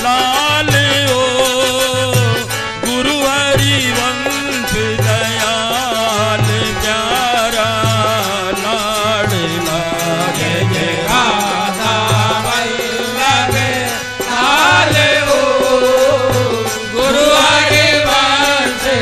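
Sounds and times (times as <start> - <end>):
melodic devotional chant: 0.0 - 19.0.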